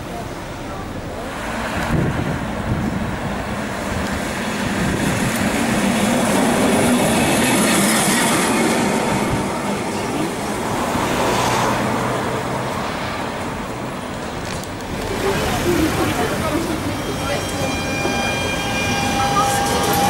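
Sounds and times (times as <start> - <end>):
tram passing on rails: 0.0 - 20.0.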